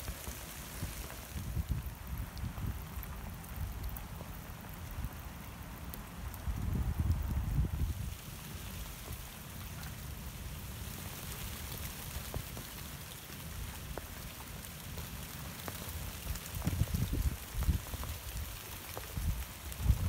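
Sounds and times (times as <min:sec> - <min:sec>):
rain falling on water: 0:00.0 - 0:20.0.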